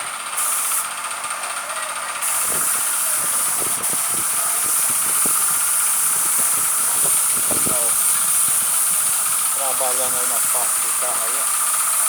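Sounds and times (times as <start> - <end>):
paint spray gun hissing: 0.2 - 12.0.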